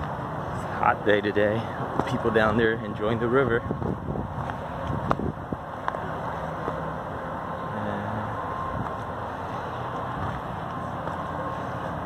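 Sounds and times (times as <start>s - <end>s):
distant freeway traffic drone: 0.0s - 12.0s.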